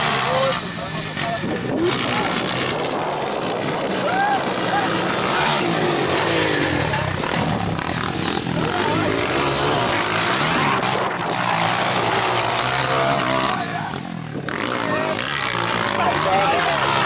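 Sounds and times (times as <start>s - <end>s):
motocross engines revving: 0.0s - 17.0s.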